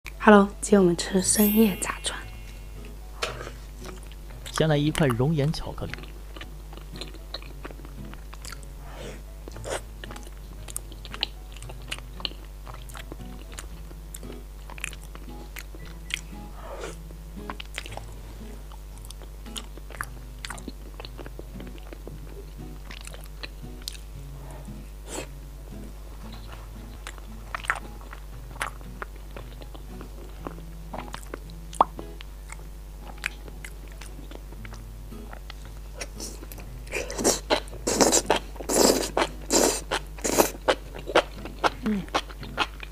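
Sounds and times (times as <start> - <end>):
quiet background music: 0.1 - 42.9
biting and chewing cake: 5.9 - 24.1, 26.3 - 42.9.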